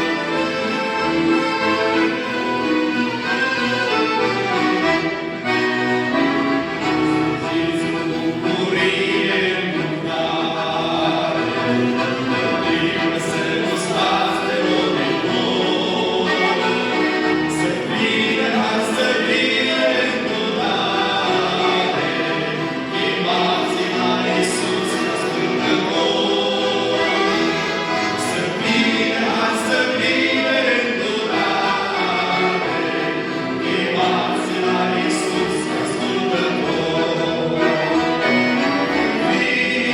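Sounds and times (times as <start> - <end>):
choir singing a hymn: 0.0 - 39.9
instruments accompanying: 0.0 - 39.9.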